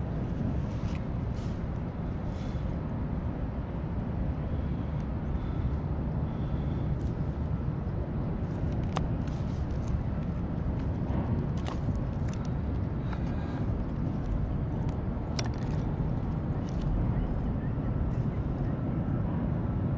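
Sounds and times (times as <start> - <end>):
wind rumble on microphone: 0.0 - 19.9.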